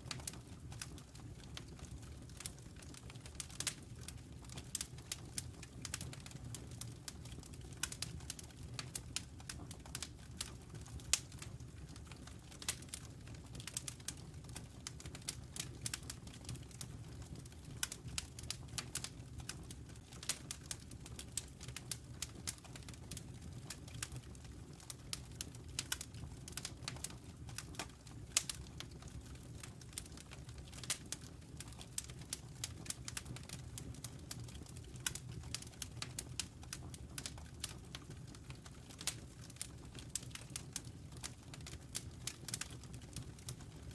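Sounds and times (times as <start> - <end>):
logs crackling and popping: 0.0 - 43.9
low rumble of flames: 0.0 - 43.9.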